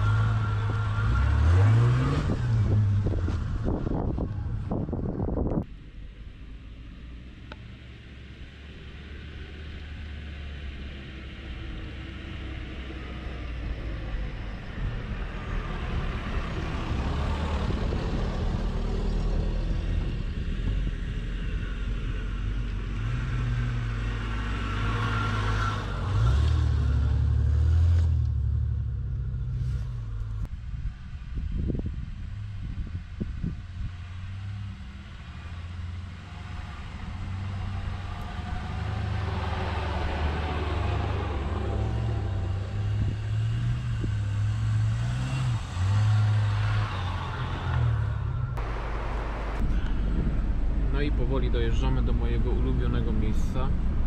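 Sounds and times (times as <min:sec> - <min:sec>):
suv engine driving rough ground: 0:00.0 - 0:54.0.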